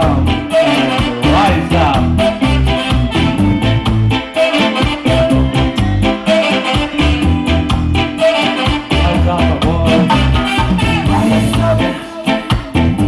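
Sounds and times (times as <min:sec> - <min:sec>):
reggae music: 0:00.0 - 0:13.0.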